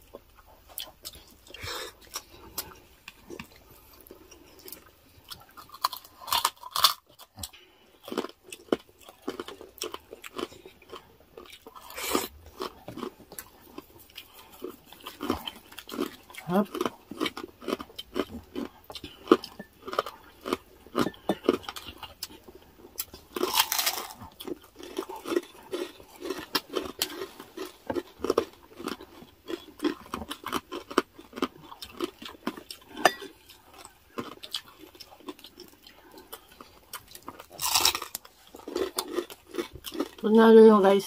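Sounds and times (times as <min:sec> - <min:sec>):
crunching and chewing pork rind: 0:00.0 - 0:41.0.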